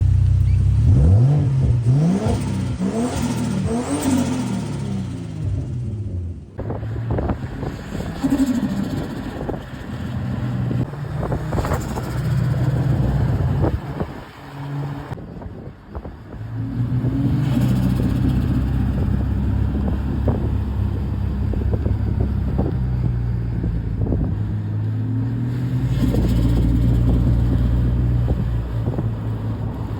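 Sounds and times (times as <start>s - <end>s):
car engine accelerating hard: 0.0s - 15.2s, 16.4s - 29.9s.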